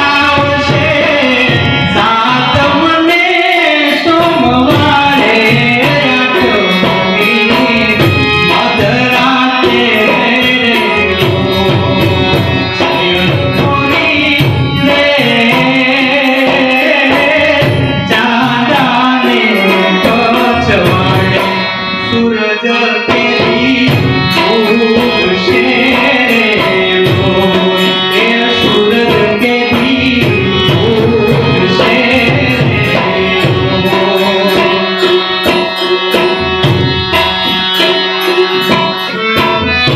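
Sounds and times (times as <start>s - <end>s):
man singing folk song: 0.0s - 34.9s
harmonium: 0.0s - 39.9s
tabla: 0.0s - 39.9s.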